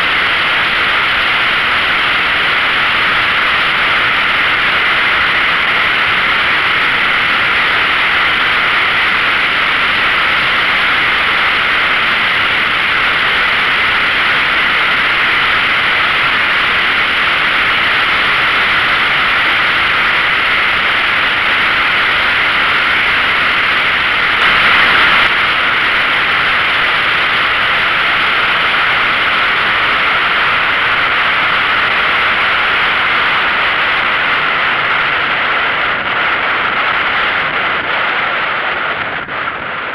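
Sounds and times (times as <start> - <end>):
wind and road hiss: 0.0 - 39.9.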